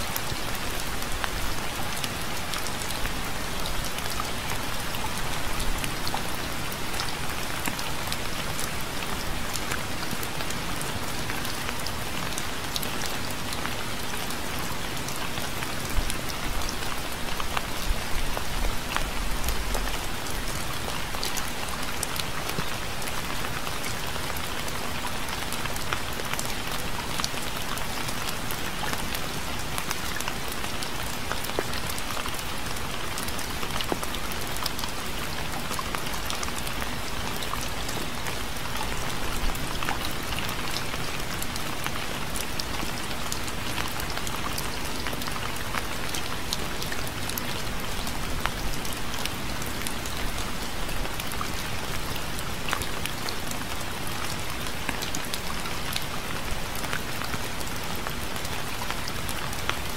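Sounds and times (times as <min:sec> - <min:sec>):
rain drops striking a surface: 0:00.0 - 0:59.9.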